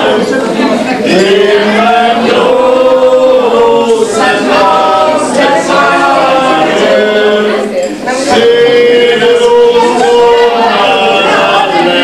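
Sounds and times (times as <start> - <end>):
group singing through loudspeaker: 0.0 - 12.0.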